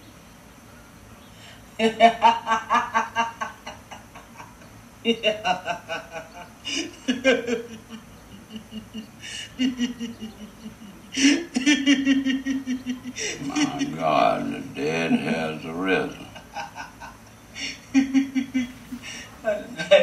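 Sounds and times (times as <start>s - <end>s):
people laughing: 1.8s - 20.0s.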